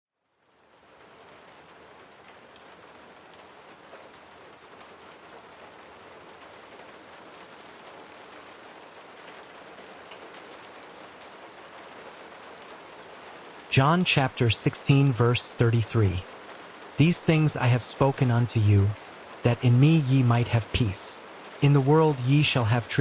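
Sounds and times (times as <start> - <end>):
soft rain falling: 0.2 - 23.0.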